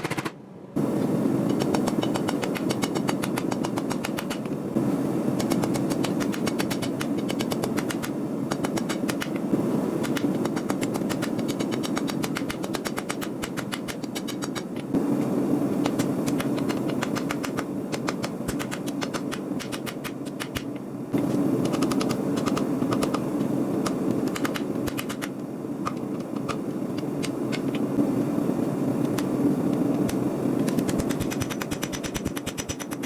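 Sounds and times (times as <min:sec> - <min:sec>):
continuous low roar: 0:00.0 - 0:32.5.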